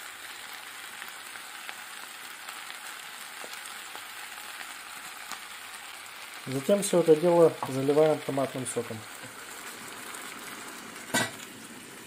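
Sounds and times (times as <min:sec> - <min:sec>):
oil sizzling in a skillet: 0:00.0 - 0:12.0.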